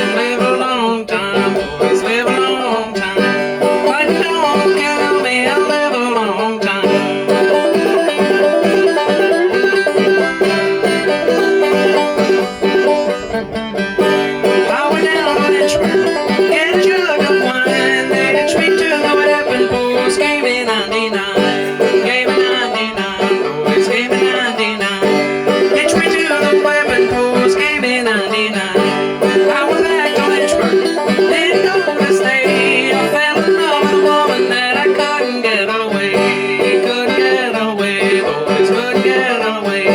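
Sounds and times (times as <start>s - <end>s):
banjo plucking: 0.0s - 39.9s.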